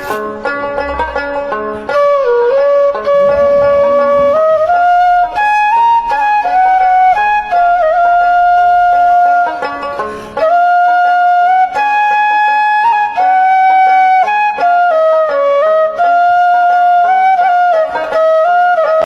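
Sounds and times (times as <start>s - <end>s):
flute playing slow melody: 1.9s - 9.8s, 10.4s - 19.0s.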